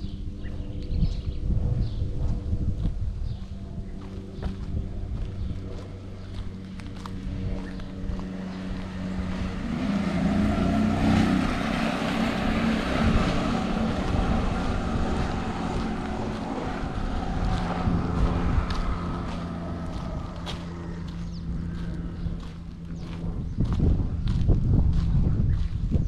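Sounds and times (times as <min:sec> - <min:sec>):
engine passing by: 0:00.0 - 0:26.0.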